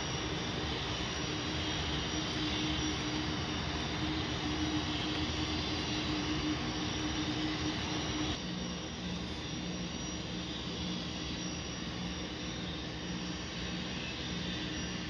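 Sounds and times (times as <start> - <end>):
low hum: 0.0 - 15.0
model locomotive turbine roar: 0.0 - 15.0.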